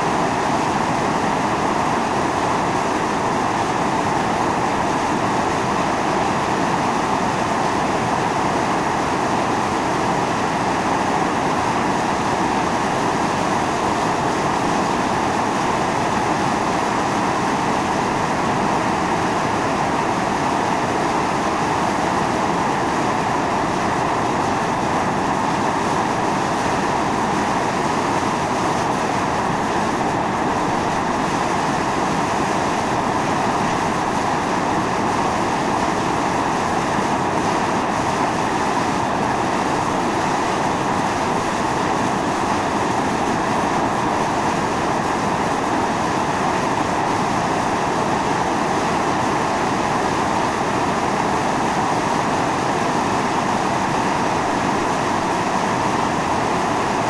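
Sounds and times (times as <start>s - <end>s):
fumarole steam hissing: 0.0s - 57.0s.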